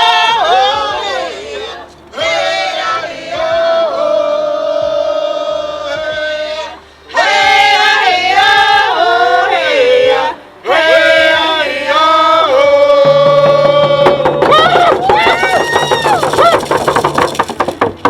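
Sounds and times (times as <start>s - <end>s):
voices singing slow chanted melody: 0.0s - 14.5s.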